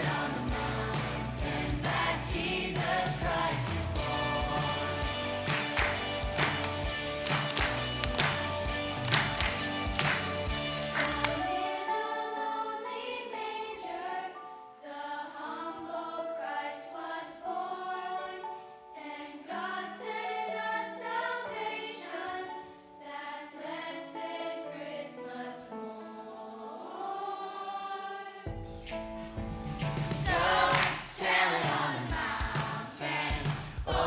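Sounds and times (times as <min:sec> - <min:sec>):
choir singing slow melody: 0:00.0 - 0:28.5, 0:30.3 - 0:34.0.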